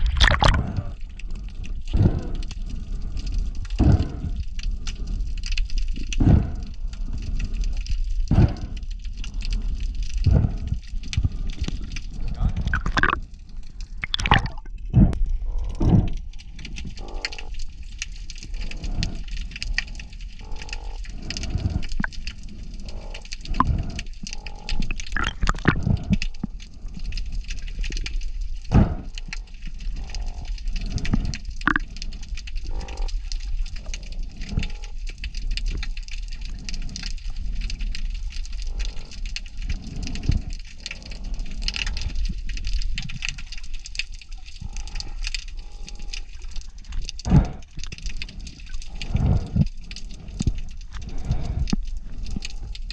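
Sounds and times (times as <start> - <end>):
water sloshing and gurgling: 0.0 - 52.9.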